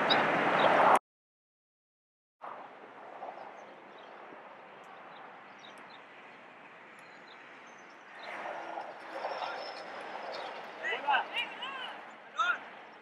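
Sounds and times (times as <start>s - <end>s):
outdoor background noise: 0.0s - 1.0s, 2.4s - 13.0s.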